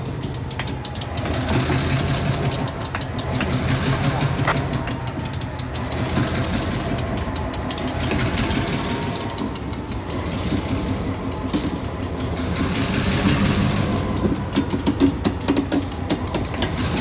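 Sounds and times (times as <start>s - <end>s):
diesel locomotive engine droning: 0.0s - 17.0s
wheels clicking on rails: 0.0s - 17.0s.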